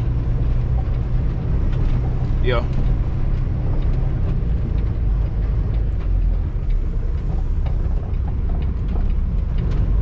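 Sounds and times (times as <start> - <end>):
diesel truck engine rumbling: 0.0 - 10.0
faint ticks and rattles: 0.1 - 10.0.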